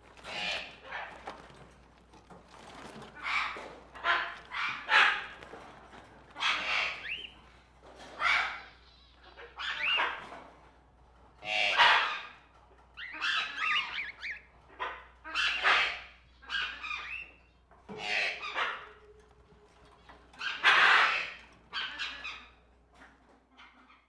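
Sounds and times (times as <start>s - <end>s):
cage birds squawking: 0.0s - 24.0s.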